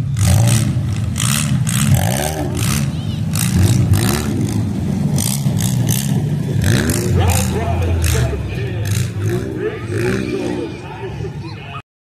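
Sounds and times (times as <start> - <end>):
car engines revving: 0.0 - 11.8.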